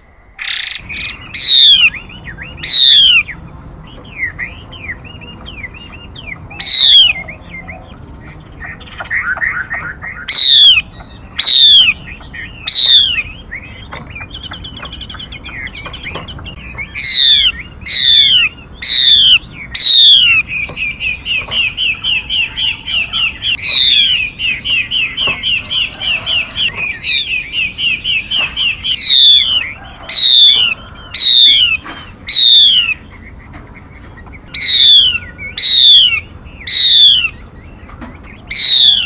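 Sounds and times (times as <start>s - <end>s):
fast bird chirping: 0.3s - 39.0s
bird whistles: 0.4s - 7.9s, 8.6s - 33.0s, 34.5s - 39.0s.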